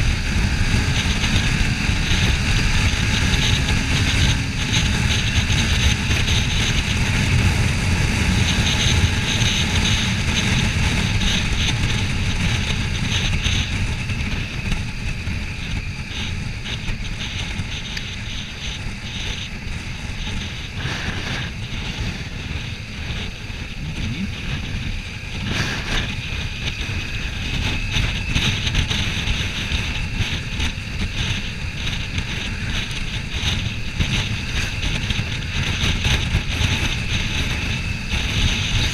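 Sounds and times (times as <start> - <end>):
motorcycle engine drone: 0.0 - 38.9
wind buffeting microphone: 0.0 - 38.9.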